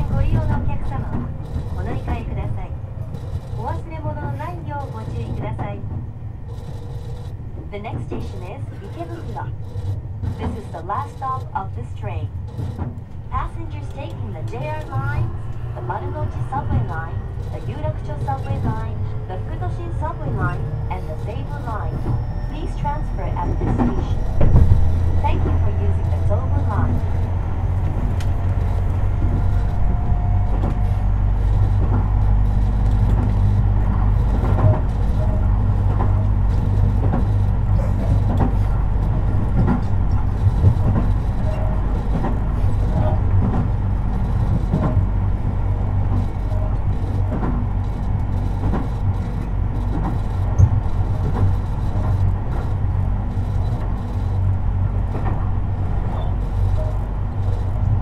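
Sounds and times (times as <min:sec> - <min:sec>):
steady tones: 0:00.0 - 0:58.0
train rumbling: 0:00.0 - 0:58.0.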